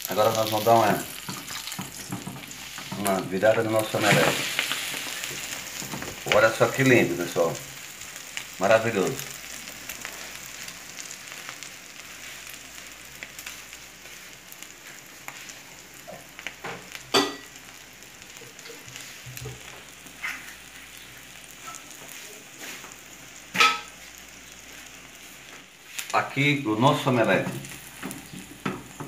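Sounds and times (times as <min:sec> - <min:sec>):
omelette sizzling in a pan: 0:00.0 - 0:29.0.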